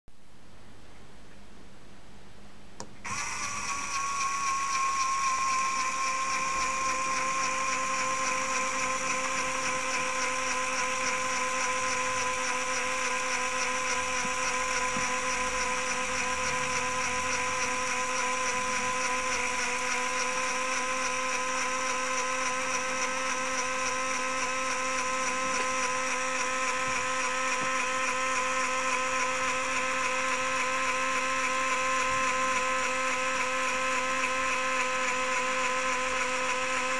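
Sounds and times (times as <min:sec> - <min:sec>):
small electric motor whine: 0:03.0 - 0:36.9.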